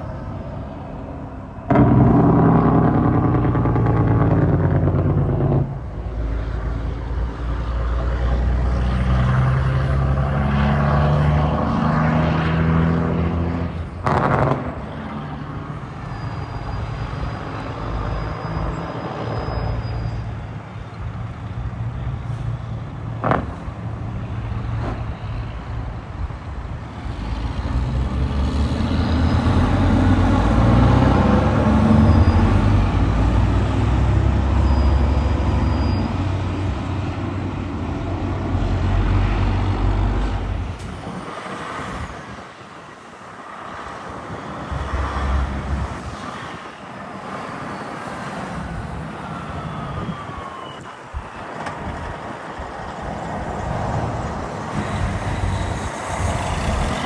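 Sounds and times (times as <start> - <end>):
heavy truck engine rumble: 0.0 - 57.0
road traffic passing: 0.0 - 57.0.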